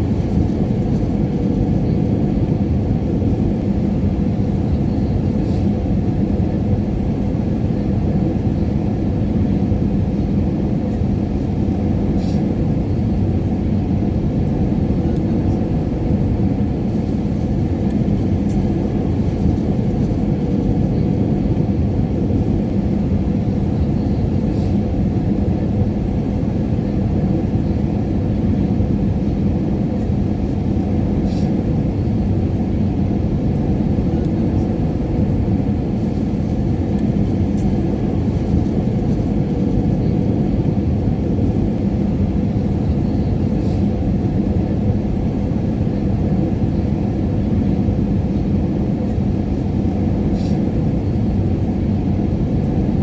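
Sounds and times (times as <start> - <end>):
airliner cabin engine rumble: 0.0 - 53.0
faint constant hum: 0.0 - 53.0.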